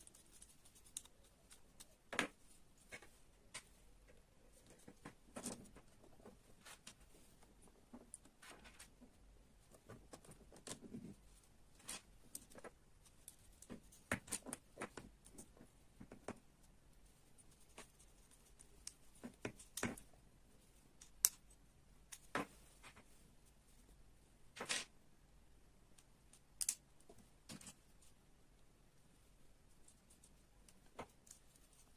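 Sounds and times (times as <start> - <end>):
small parts clicking and tapping: 0.0 - 16.8, 17.5 - 20.2, 20.8 - 23.1, 25.8 - 28.7, 29.6 - 31.9.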